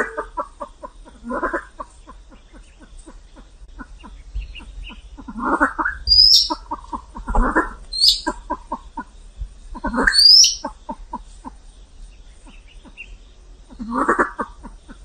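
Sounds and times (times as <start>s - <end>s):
pheasant clucks: 0.0s - 15.0s
pheasant harsh calls: 0.0s - 15.0s.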